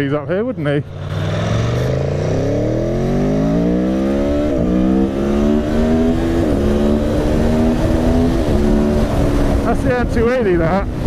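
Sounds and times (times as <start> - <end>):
motorcycle engine accelerating: 0.5 - 11.0.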